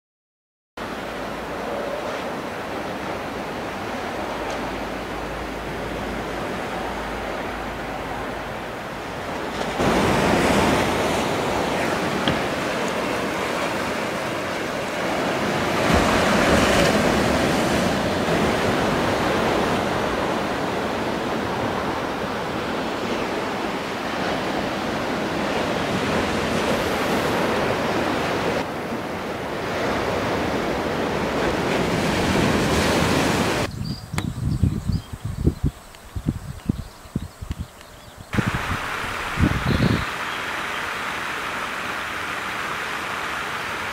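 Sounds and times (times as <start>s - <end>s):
waves breaking: 0.8s - 33.7s, 38.4s - 43.9s.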